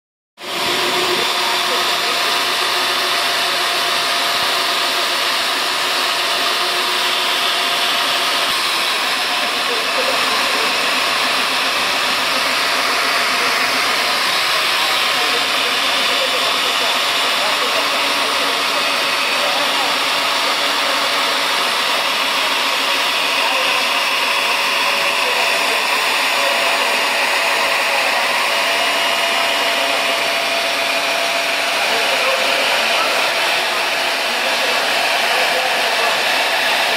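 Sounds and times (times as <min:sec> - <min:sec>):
core drill boring into concrete: 0:00.4 - 0:36.9.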